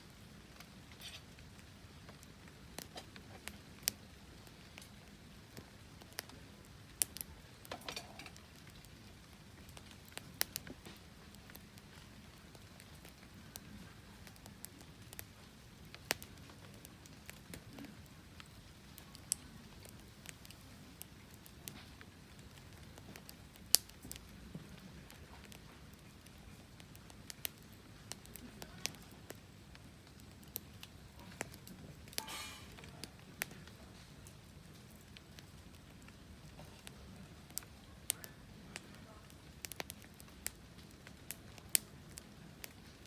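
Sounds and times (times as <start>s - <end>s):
wood fire crackling: 0.0s - 43.0s
sharp pops of fire: 0.1s - 43.0s.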